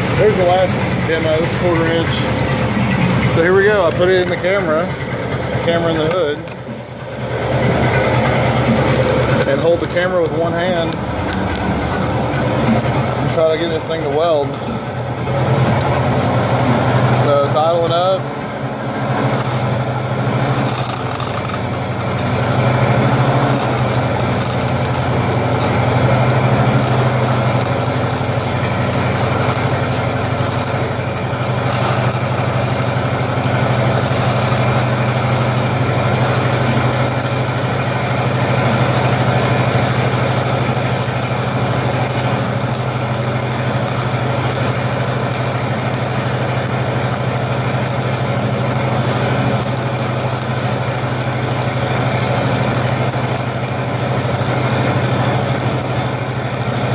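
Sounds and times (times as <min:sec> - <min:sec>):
gasoline engine running: 0:00.0 - 0:56.9
welding arc crackle: 0:00.0 - 0:56.9.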